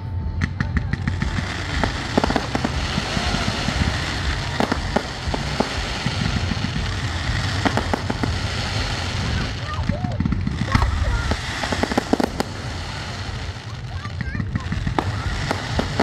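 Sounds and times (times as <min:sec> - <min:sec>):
fireworks bangs: 0:00.2 - 0:16.0
fireworks popping: 0:00.3 - 0:16.0
fireworks crackling hiss: 0:00.4 - 0:16.0.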